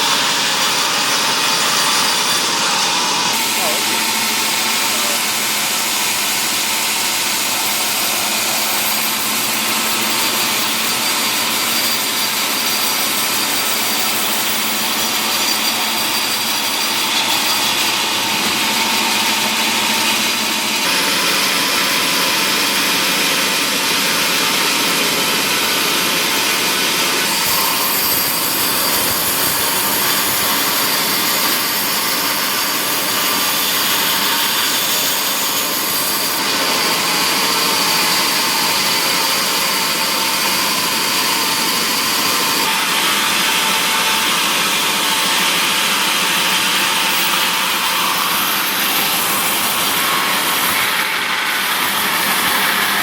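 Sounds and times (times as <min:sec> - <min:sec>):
sawmill saw cutting timber: 0:00.0 - 0:53.0.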